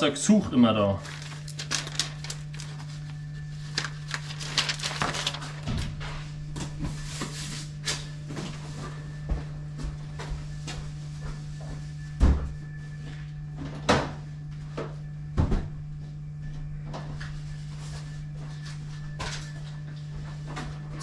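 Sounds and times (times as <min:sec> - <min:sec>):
low hum: 0:00.5 - 0:21.0.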